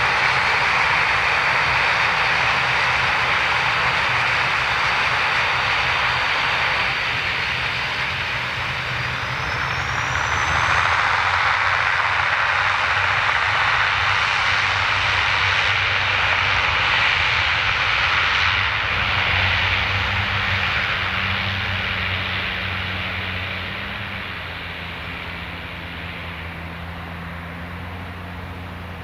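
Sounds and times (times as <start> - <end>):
low propeller hum: 0.0 - 29.0
turboprop turbine hiss: 0.0 - 29.0.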